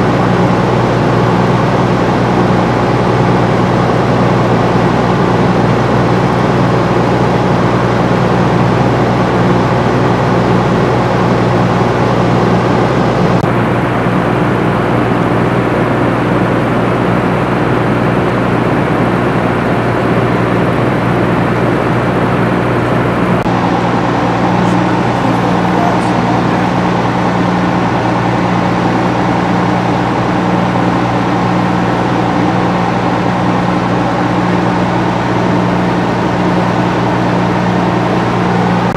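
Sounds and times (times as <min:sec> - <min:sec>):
heavy engine idling: 0:00.0 - 0:38.9.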